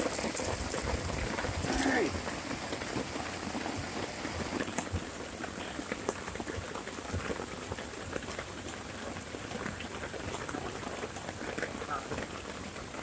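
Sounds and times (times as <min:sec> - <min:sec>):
heavy rain on canopy: 0:00.0 - 0:13.0.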